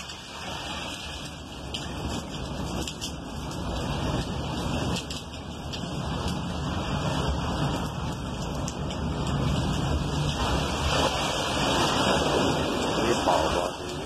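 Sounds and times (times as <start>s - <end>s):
strong wind: 0.0s - 14.0s
surf against sea wall: 0.0s - 14.0s.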